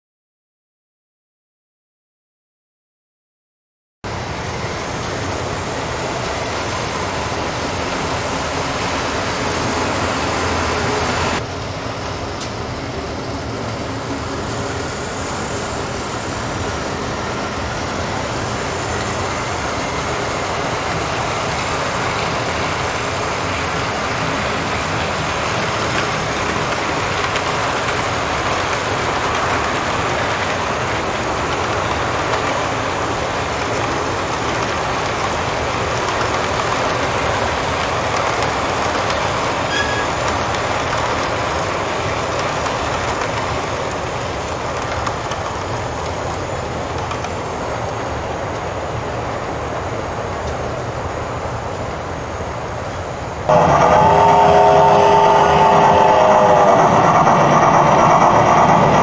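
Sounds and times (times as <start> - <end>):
model train wheels rumbling on rails: 4.1 - 59.0.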